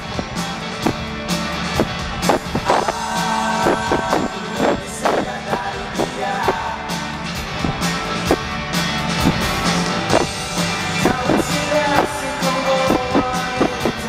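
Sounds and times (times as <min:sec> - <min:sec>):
drum hits: 0:00.0 - 0:06.8, 0:07.4 - 0:14.0
distorted loud bass: 0:00.0 - 0:14.0
electric guitar: 0:00.0 - 0:14.0.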